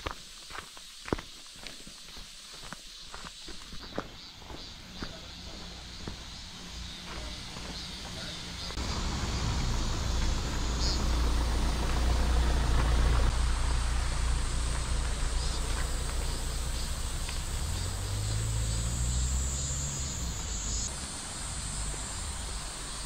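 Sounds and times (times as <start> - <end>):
insects droning: 0.0 - 23.0
vehicle engine rumble: 4.0 - 23.0.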